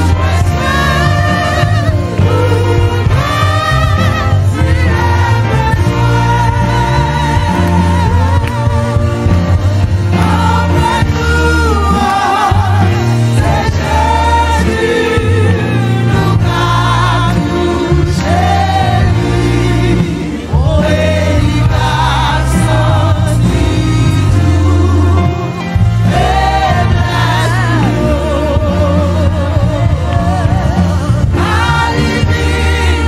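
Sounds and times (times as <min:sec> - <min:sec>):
choir singing gospel: 0:00.0 - 0:33.0
church band with heavy bass: 0:00.0 - 0:33.0.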